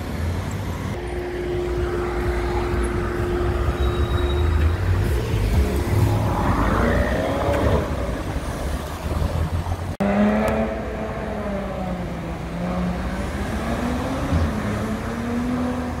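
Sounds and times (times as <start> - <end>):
engine running at low revs: 0.2 - 16.0.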